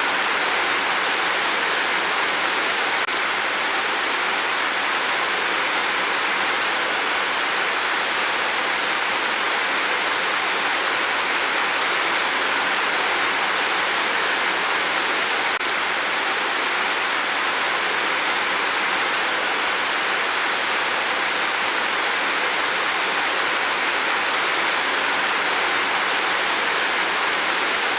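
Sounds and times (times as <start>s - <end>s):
heavy rain hissing: 0.0s - 27.9s.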